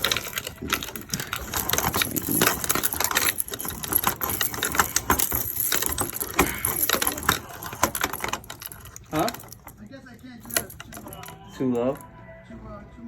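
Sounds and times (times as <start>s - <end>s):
metallic clicks and key rattles: 0.0s - 12.0s.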